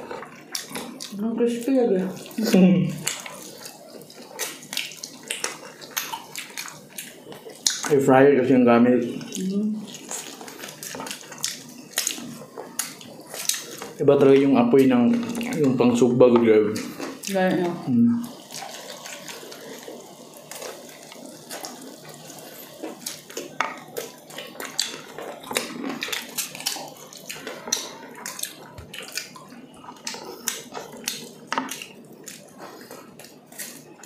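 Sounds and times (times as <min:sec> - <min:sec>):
people chewing: 0:00.0 - 0:34.0.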